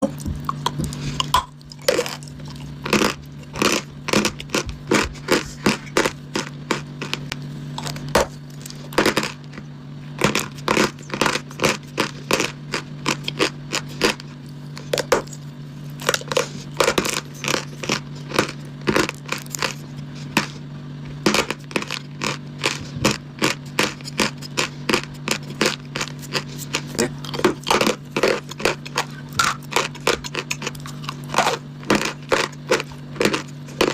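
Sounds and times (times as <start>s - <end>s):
chalk and clay crunching: 0.0s - 33.9s
steady low hum: 0.0s - 33.9s.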